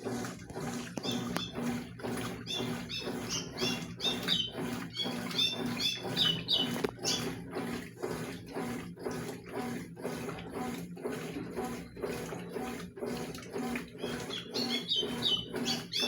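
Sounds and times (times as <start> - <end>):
washing machine churning: 0.0 - 16.0.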